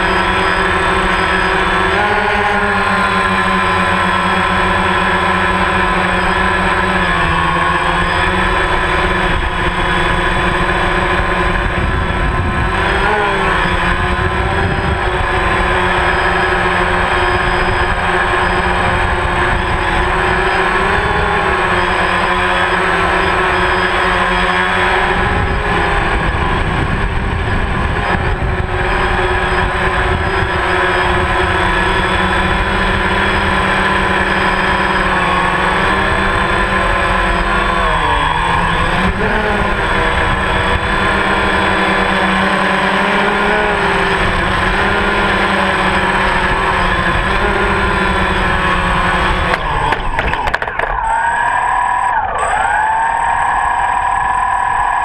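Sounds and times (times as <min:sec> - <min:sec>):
drone propellers whining: 0:00.0 - 0:55.0.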